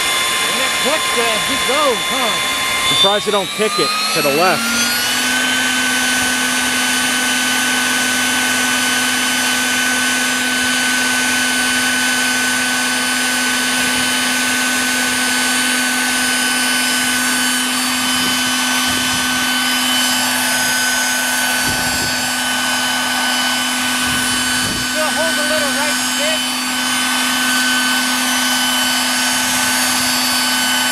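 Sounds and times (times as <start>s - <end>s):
model helicopter whine: 0.0s - 30.9s.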